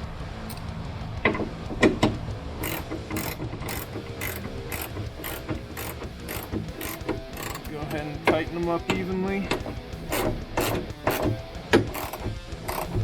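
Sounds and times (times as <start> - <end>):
sharp metal knocks: 1.3 - 13.0
socket ratchet clicking: 1.3 - 13.0.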